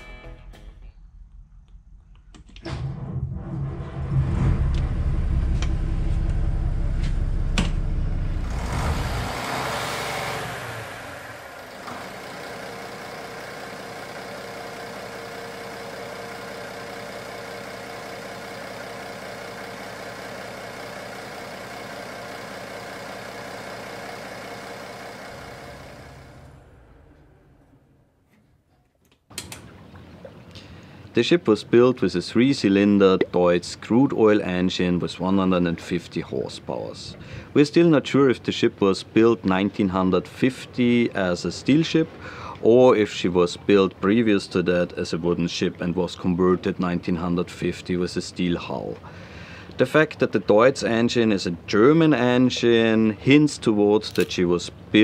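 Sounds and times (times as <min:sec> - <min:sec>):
diesel engine starting and idling: 0:02.6 - 0:28.2, 0:34.3 - 0:54.9.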